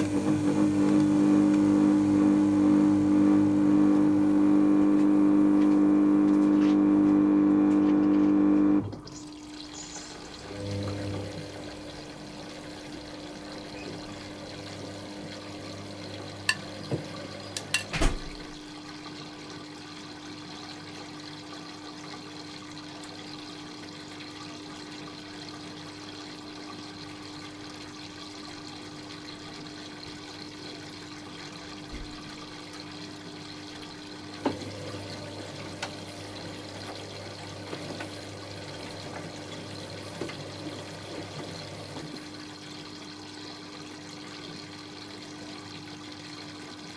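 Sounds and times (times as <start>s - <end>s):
washing machine hum: 0.0s - 46.9s
water sloshing in washing machine: 0.0s - 46.9s.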